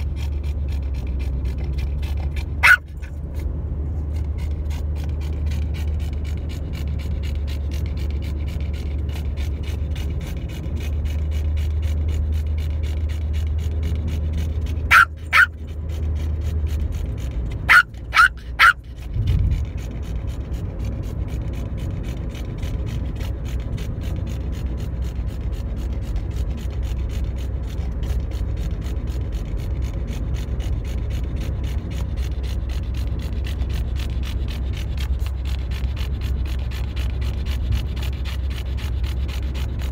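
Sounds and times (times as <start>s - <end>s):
car interior rumble: 0.0s - 39.9s.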